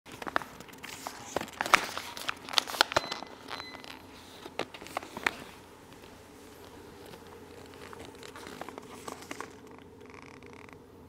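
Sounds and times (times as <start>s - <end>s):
light crinkling of packaging: 0.1s - 10.1s.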